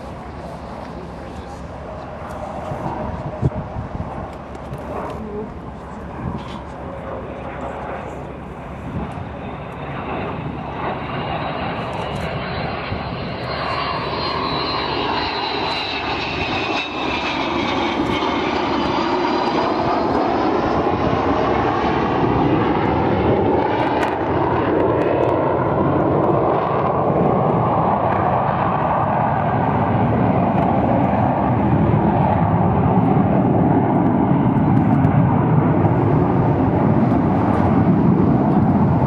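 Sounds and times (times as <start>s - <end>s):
jet bomber flying past: 0.0s - 39.0s.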